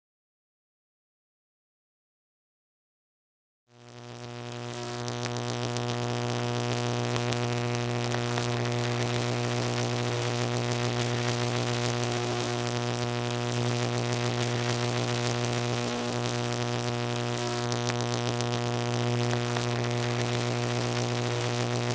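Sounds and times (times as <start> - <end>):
crackling hiss: 3.8 - 21.9
electrical hum: 3.8 - 21.9.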